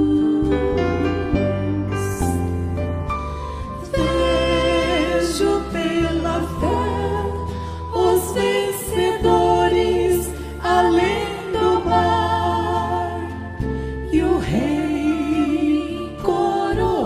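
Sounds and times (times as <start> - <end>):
gospel singing with accompaniment: 0.0 - 2.6, 3.4 - 17.0.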